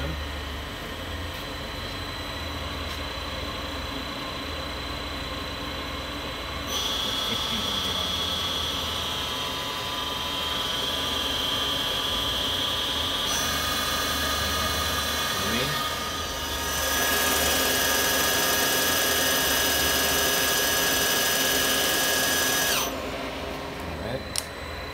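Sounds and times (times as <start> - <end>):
high steady whine: 0.0 - 24.9
lathe machine hum: 1.8 - 24.9.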